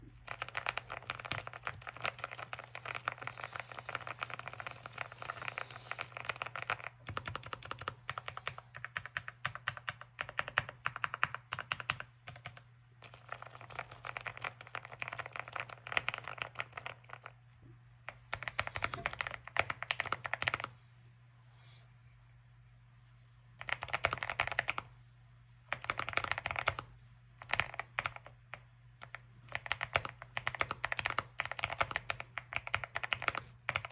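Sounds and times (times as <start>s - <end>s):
faint low hum: 0.0s - 33.9s
mechanical keyboard typing: 0.2s - 17.4s, 18.1s - 20.7s, 23.6s - 24.9s, 25.7s - 33.9s.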